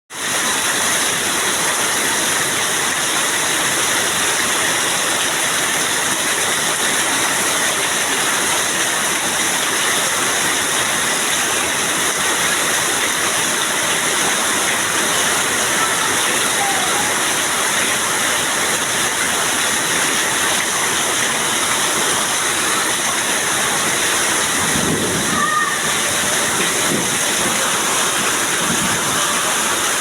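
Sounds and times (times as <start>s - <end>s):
heavy rain pouring: 0.1s - 30.0s.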